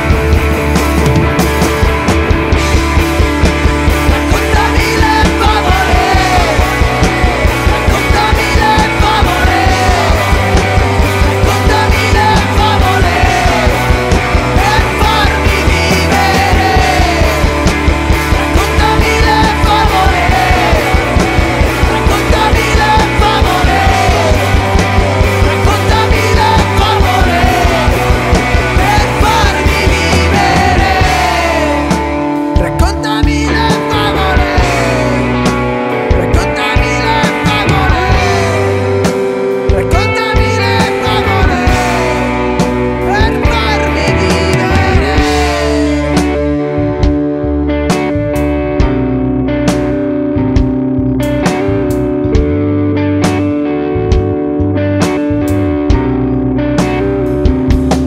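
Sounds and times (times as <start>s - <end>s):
alternative rock band playing: 0.0s - 58.0s.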